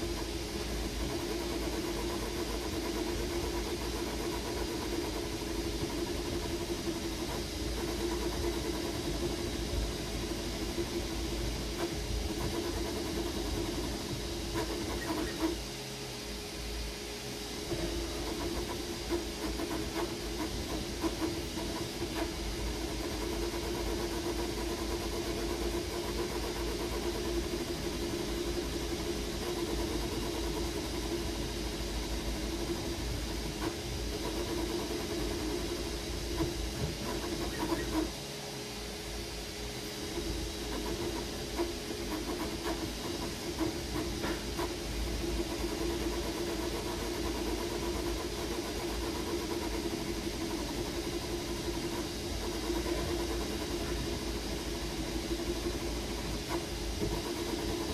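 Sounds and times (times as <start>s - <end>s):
printer mechanical hum: 0.0s - 57.9s.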